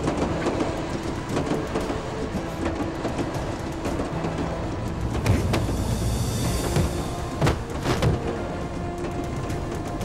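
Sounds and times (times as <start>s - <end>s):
train rumbling on rails: 0.0s - 10.0s
wheels clicking and clattering: 0.0s - 10.0s.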